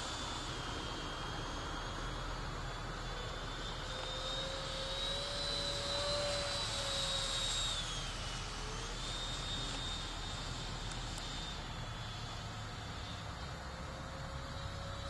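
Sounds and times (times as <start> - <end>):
electric ducted fan whine: 0.0 - 15.0.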